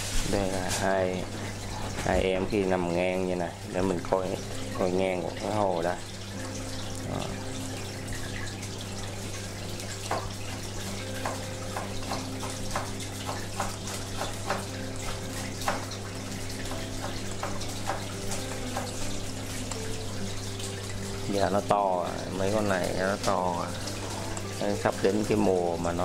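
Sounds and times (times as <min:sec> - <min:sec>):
low pump hum: 0:00.0 - 0:26.0
water trickling: 0:00.0 - 0:26.0
bubbly plinks: 0:03.8 - 0:26.0.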